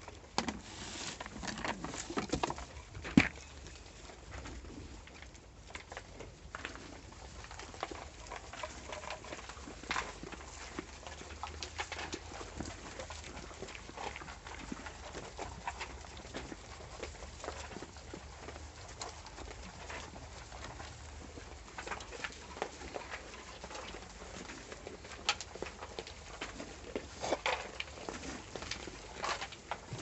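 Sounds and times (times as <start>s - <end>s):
goats crunching grain: 0.0s - 30.0s.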